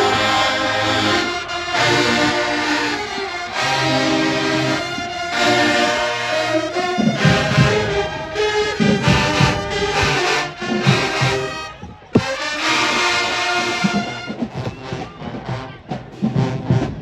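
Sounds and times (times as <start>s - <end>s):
marching band brass chords: 0.0s - 17.0s.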